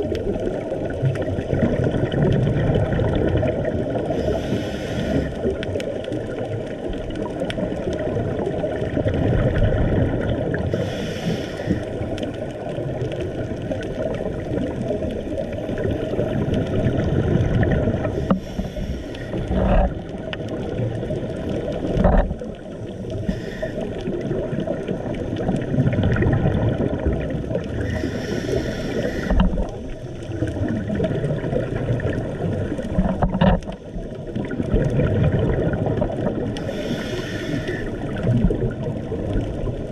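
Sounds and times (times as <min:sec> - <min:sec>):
low underwater rumble: 0:00.0 - 0:39.9
regulator bubbles hissing: 0:00.0 - 0:39.9.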